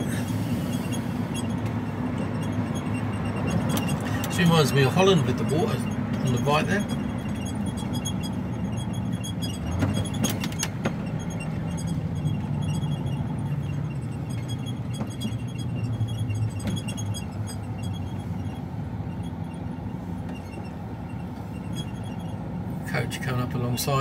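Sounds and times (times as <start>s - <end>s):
lorry diesel engine and road noise: 0.0s - 24.0s.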